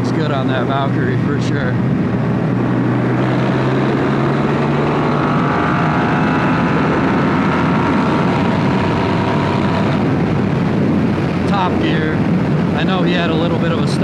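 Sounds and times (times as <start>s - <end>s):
wind rushing over microphone: 0.0s - 14.0s
motorcycle engine pulling hard: 1.4s - 12.8s.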